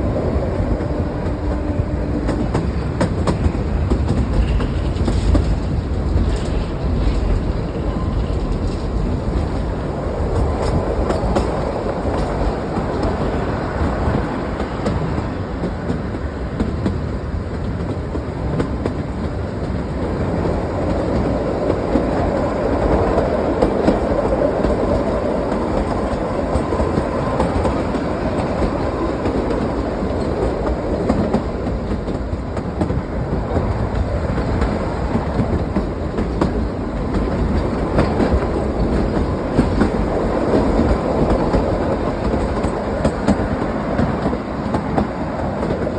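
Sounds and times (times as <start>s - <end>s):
train wheels rumbling on rails: 0.0s - 45.9s
wheels clicking over rail joints: 0.2s - 45.9s.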